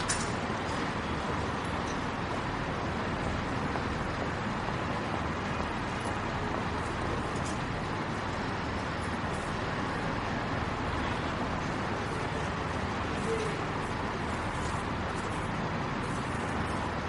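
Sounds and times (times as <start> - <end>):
station noise: 0.0 - 17.0.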